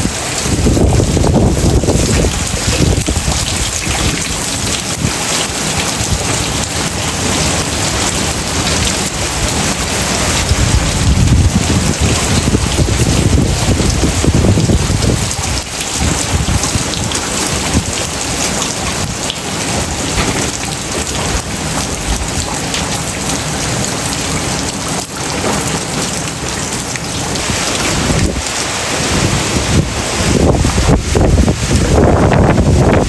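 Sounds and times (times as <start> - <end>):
heavy rain pouring: 0.0 - 33.0
wind buffeting microphone: 0.0 - 33.0.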